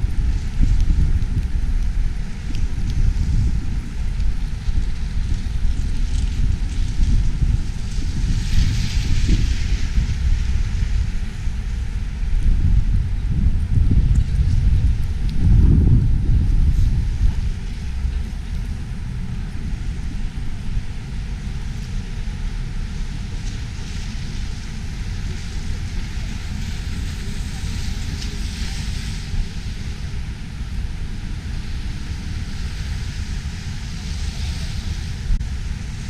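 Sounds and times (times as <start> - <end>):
steady hiss: 0.0 - 36.0
wind buffeting microphone: 0.0 - 36.0.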